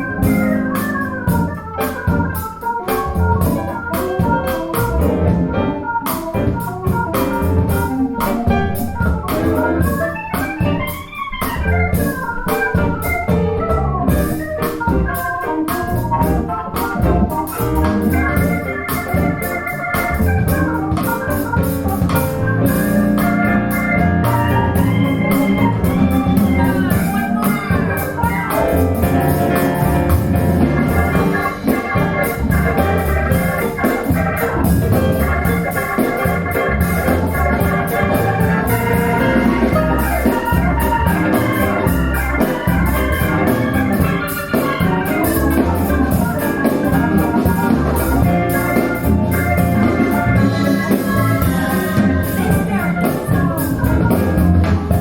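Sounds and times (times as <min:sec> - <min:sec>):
deep bass line: 0:00.0 - 0:55.0
organ-like keyboard chords: 0:00.0 - 0:55.0.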